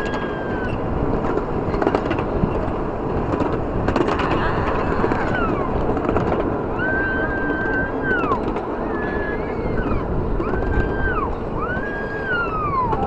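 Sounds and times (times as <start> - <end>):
train wheels rumbling on rail: 0.0 - 13.0
wheels squealing: 0.0 - 13.0.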